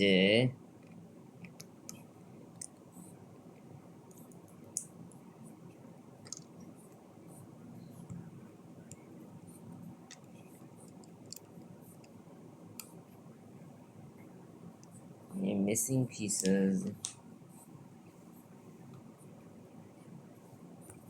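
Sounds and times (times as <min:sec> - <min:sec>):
faint low room hum: 0:00.0 - 0:21.0.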